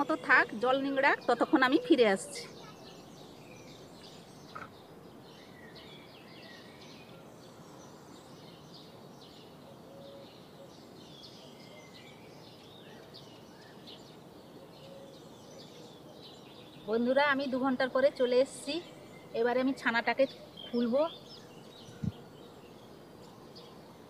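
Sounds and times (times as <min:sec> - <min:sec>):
faint outdoor ambience: 0:00.0 - 0:24.0
small birds chirping: 0:00.0 - 0:24.0.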